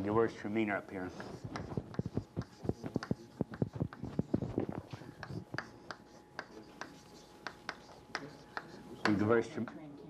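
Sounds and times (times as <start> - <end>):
chalk tapping and scratching on blackboard: 0.9 - 9.8.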